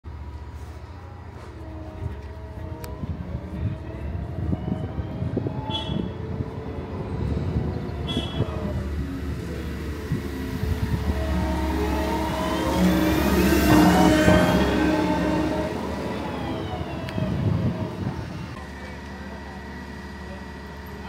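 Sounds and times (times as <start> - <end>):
machinery engine running: 0.1 - 21.0.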